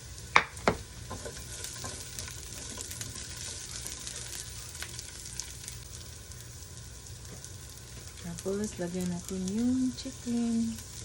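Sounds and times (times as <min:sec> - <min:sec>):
ginger and onion sizzling in oil: 0:00.0 - 0:11.0.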